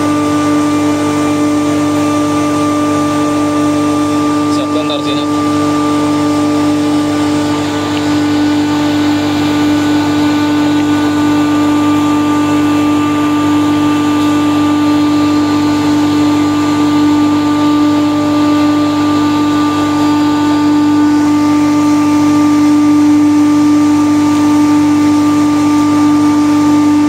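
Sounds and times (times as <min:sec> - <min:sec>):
loud machinery hum: 0:00.0 - 0:27.0.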